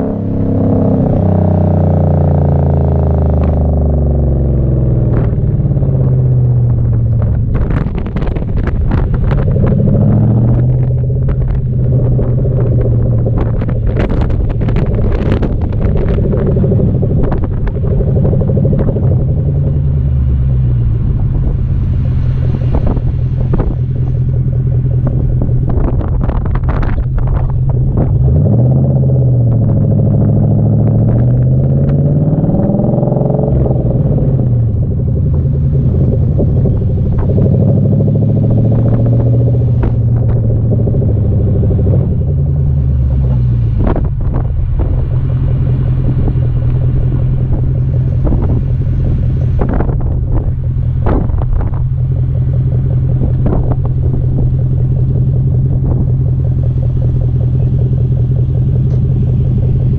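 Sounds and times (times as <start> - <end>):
car exhaust revving: 0.0 - 59.9.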